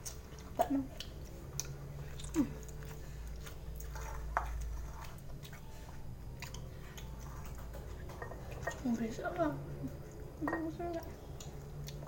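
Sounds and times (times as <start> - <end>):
person chewing wetly: 0.0 - 8.7, 10.0 - 12.0
low steady hum: 0.0 - 12.0.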